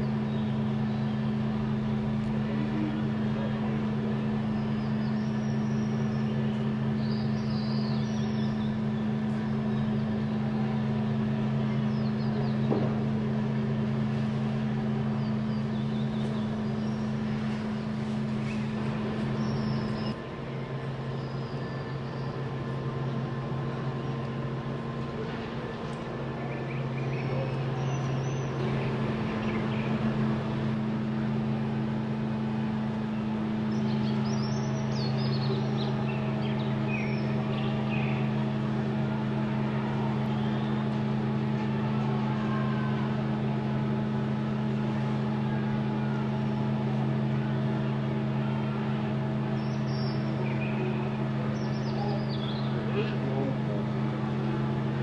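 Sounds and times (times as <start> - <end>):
birds chirping: 0.0 - 55.0
large engine humming: 0.0 - 55.0.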